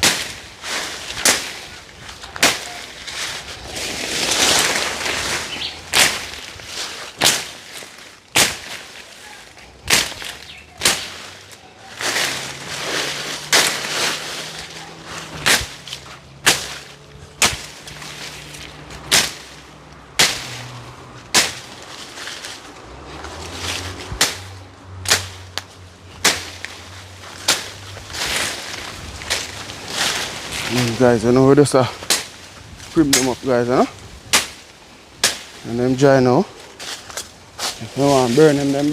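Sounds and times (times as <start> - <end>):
blade chopping branches: 0.0 - 38.9.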